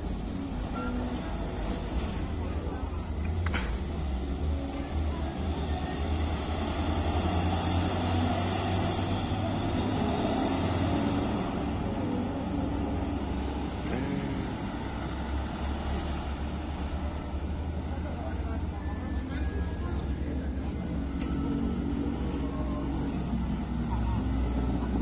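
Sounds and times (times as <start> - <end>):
diesel truck engines running: 0.0 - 25.0
road traffic: 0.0 - 25.0.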